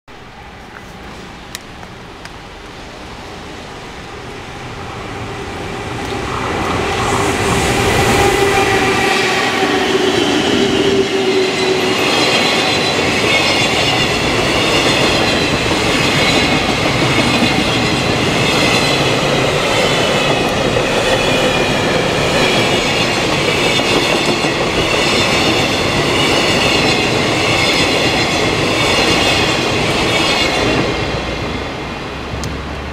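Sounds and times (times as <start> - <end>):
wheels rumbling on rail: 0.1 - 32.9.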